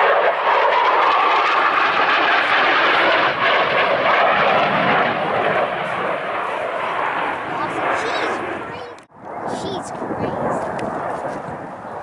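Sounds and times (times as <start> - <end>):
fighter jet engine roar: 0.0 - 12.0.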